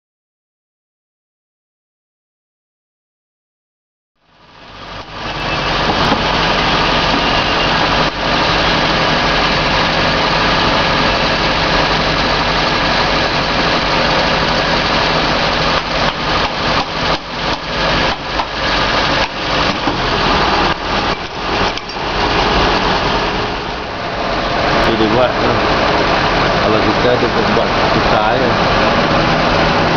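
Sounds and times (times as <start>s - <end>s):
car engine idling: 4.2s - 29.9s.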